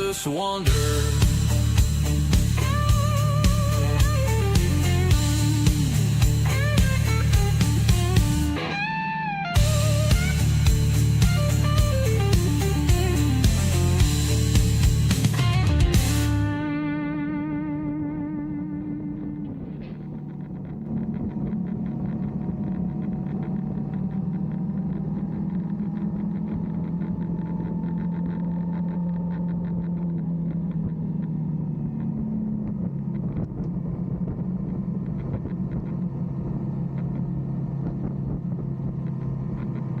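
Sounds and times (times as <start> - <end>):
motorcycle engine running: 0.0 - 40.0
road rumble: 0.0 - 40.0.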